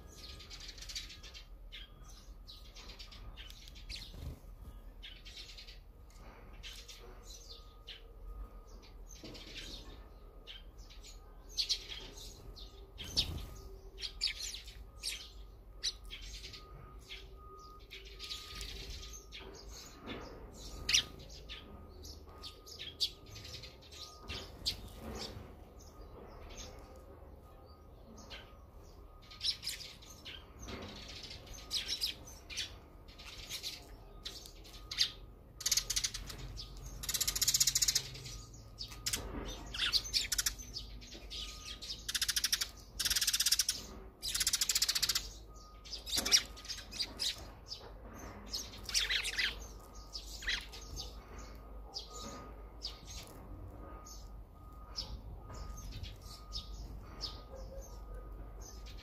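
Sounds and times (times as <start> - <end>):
sparrows chirping: 0.0 - 59.0.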